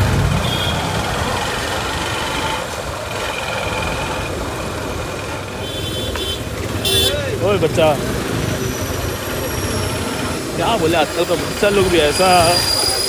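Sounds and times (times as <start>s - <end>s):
motorcycle engine running: 0.0s - 10.6s
street traffic noise: 0.0s - 13.0s.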